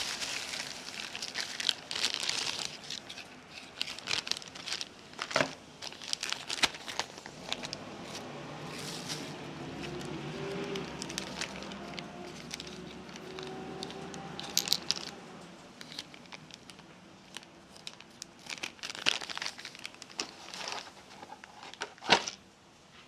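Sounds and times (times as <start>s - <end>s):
packaging crinkling and rustling: 0.0s - 22.4s.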